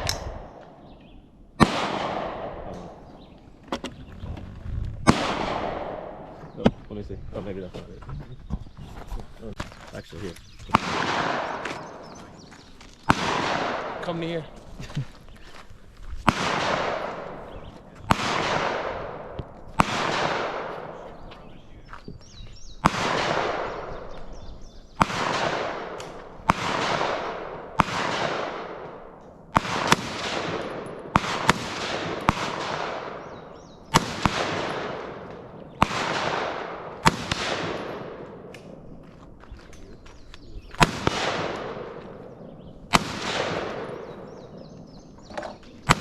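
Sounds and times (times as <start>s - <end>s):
gunshots with rolling echo: 0.0s - 3.6s, 5.0s - 7.6s, 10.2s - 21.9s, 22.6s - 46.0s.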